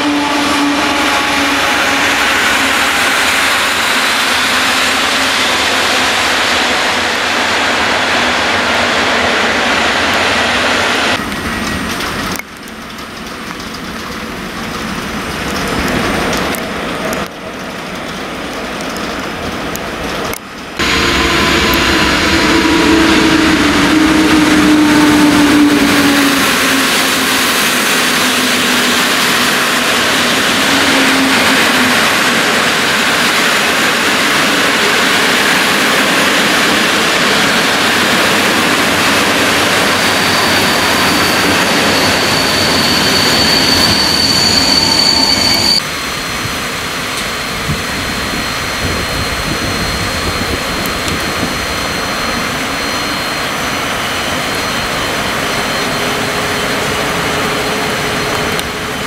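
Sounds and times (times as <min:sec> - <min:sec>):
falling train whine: 0:00.0 - 0:59.0
quiet railway sound: 0:00.0 - 0:59.0
train coaches rumbling and hissing: 0:00.0 - 0:59.0.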